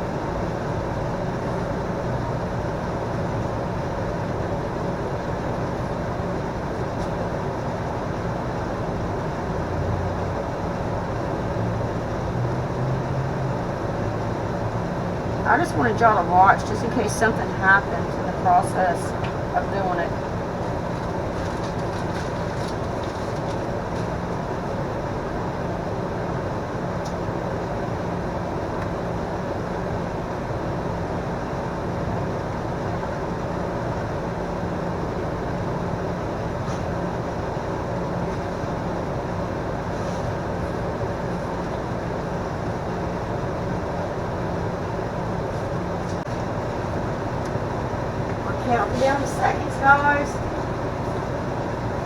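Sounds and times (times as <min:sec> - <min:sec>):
microwave oven humming: 0:00.0 - 0:52.0.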